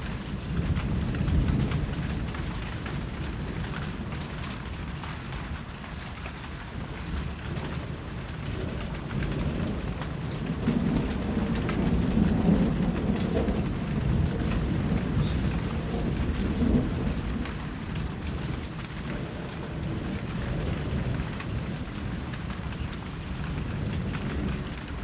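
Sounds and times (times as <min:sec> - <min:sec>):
distant thunder rumble: 0:00.0 - 0:05.1, 0:06.4 - 0:25.0
rain drop ticks: 0:00.0 - 0:25.0
steady rainfall: 0:00.0 - 0:25.0.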